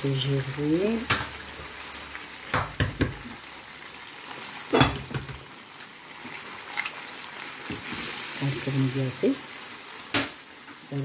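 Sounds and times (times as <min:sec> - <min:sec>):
sauce simmering with soft hiss: 0:00.0 - 0:11.0.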